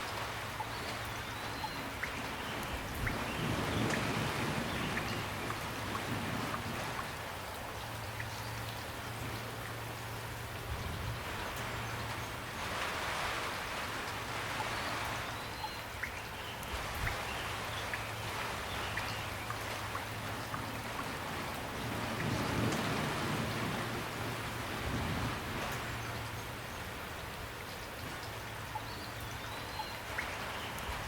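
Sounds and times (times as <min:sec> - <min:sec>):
raindrops ticking on a surface: 0:00.0 - 0:31.0
steady rain: 0:00.0 - 0:31.0.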